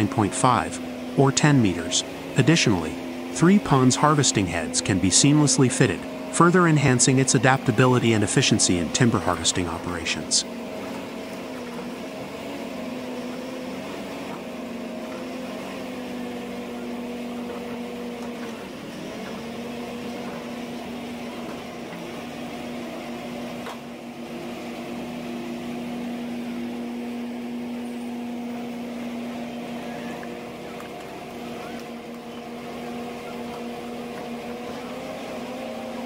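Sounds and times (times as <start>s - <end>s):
diesel engine humming: 0.0s - 36.0s.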